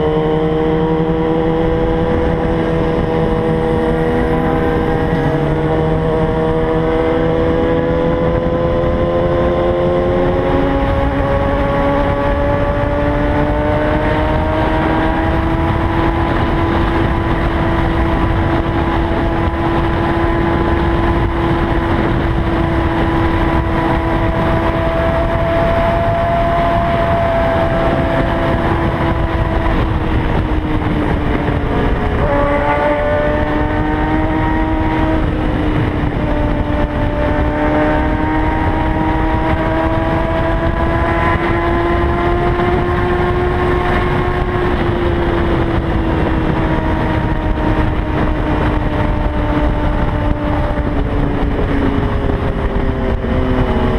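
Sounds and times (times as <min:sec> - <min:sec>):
motorcycle engine cruising: 0:00.0 - 0:53.9
wind noise on microphone: 0:00.0 - 0:53.9.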